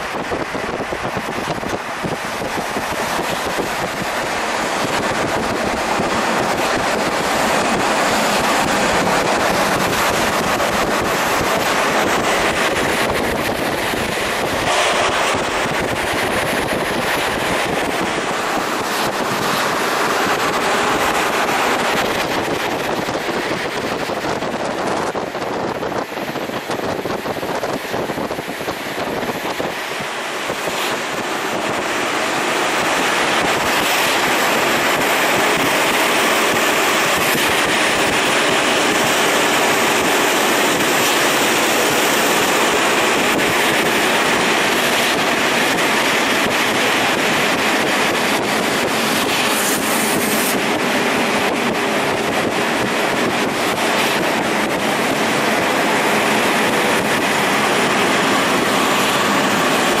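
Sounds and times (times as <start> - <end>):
train rushing on rails: 0.0 - 60.0.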